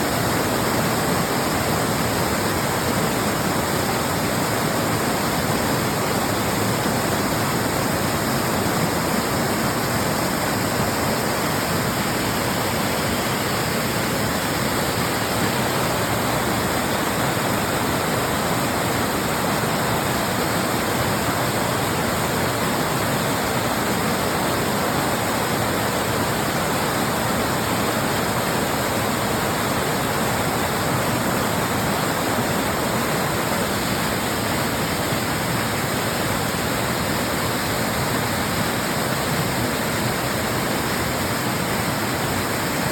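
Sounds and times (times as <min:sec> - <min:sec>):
small waterfall splashing: 0:00.0 - 0:42.9.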